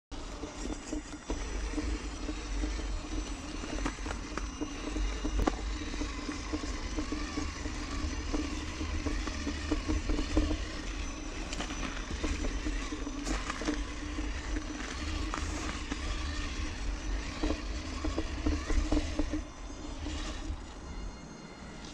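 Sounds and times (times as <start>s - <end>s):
constant low rumble: 0.1s - 21.9s
toy car running noise: 0.1s - 21.9s
wheels crunching on gravel: 0.1s - 21.9s.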